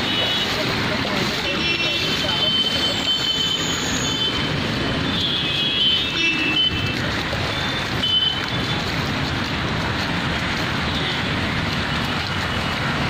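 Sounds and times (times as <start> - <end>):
rain and floodwater rushing: 0.0 - 13.0
traffic: 0.0 - 13.0.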